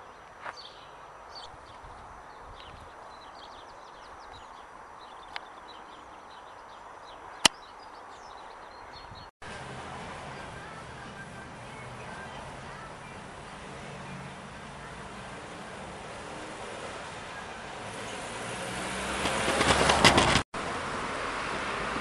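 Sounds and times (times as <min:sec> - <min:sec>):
birds chirping: 0:00.0 - 0:19.8.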